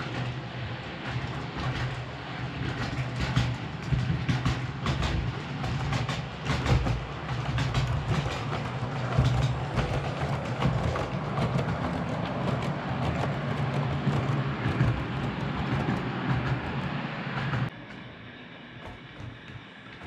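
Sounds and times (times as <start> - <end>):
model train wheels clicking: 0.0 - 18.1.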